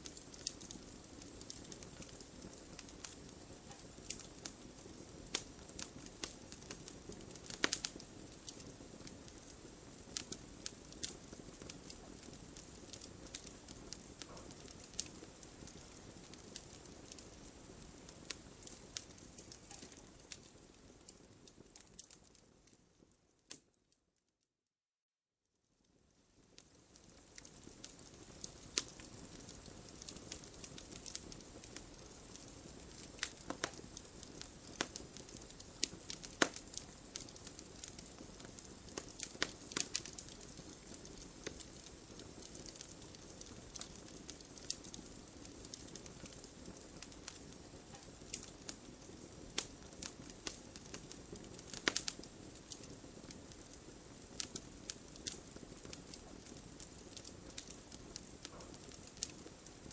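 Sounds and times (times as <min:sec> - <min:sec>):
wood fire crackling: 0:00.0 - 0:23.8, 0:25.8 - 0:59.9.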